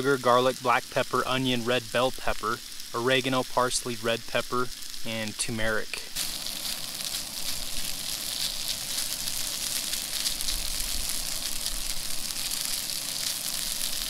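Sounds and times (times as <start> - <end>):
fish and potatoes sizzling in pan: 0.0 - 14.0.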